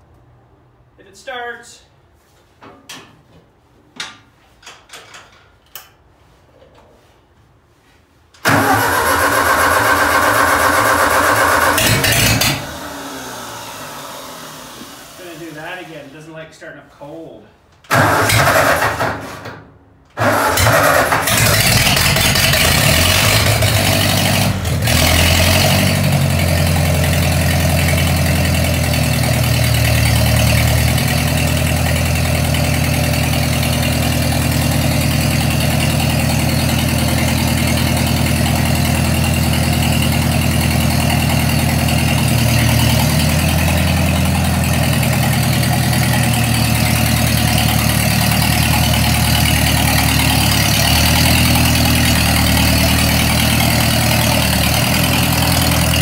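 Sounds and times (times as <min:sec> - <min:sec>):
tractor engine cranking and idling: 0:08.3 - 0:15.9, 0:17.7 - 0:56.0.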